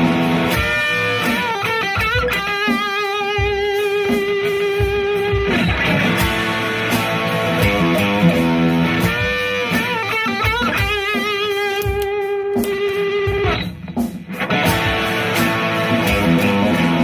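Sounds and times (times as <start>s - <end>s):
electric guitar with vibrato: 0.0s - 17.0s.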